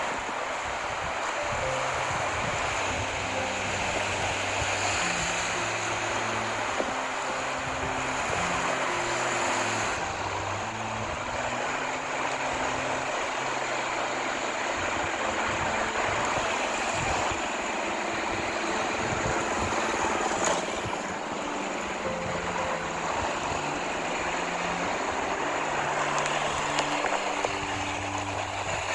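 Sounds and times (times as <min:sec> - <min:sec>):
background music: 0:00.0 - 0:28.9
sea surf rushing: 0:00.0 - 0:28.9.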